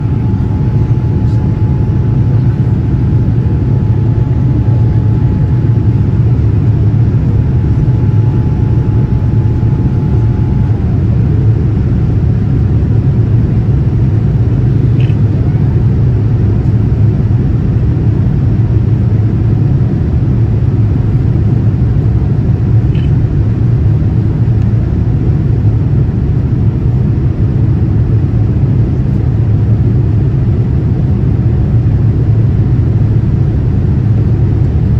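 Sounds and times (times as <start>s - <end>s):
airplane cabin rumble: 0.0s - 34.9s.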